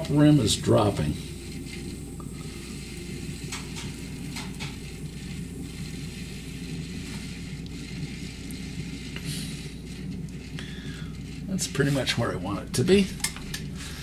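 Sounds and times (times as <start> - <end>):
potter's wheel humming: 0.0 - 14.0.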